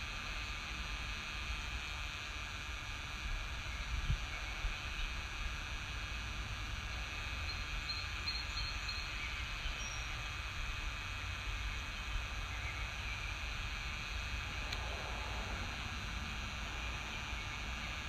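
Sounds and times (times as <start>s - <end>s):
faint high-pitched whine: 0.0s - 18.0s
low rumble and hiss: 0.0s - 18.0s.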